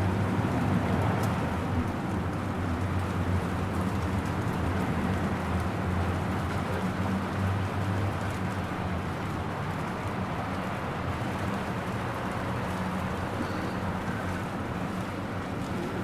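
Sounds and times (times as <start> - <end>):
rain drop ticks: 0.0 - 16.0
steady rain hiss: 0.0 - 16.0.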